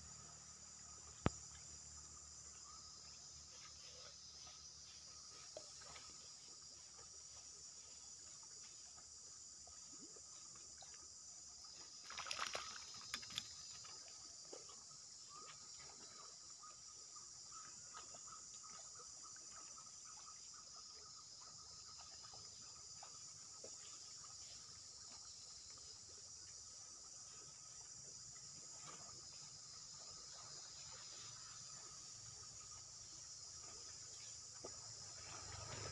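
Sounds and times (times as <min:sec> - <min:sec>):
faint steady tone: 0:00.0 - 0:35.9
high-pitched insect chorus: 0:00.0 - 0:35.9.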